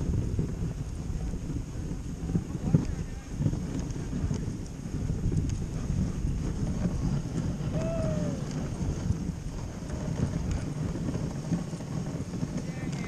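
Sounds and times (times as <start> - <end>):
sled running over snow: 0.0 - 13.0
wind buffeting microphone: 0.0 - 13.0.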